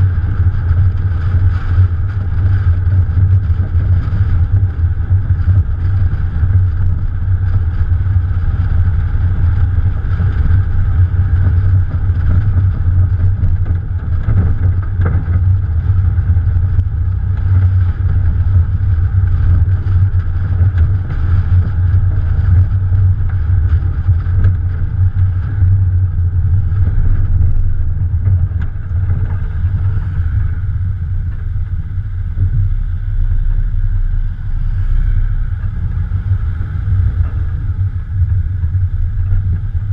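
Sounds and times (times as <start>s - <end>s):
car engine running: 0.0s - 39.9s
wind and road noise: 0.0s - 39.9s.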